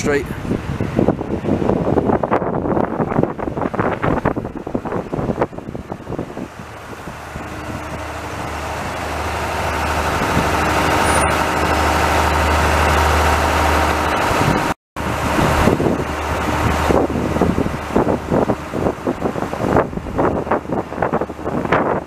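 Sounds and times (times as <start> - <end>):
diesel railcar engine hum: 0.0 - 22.0.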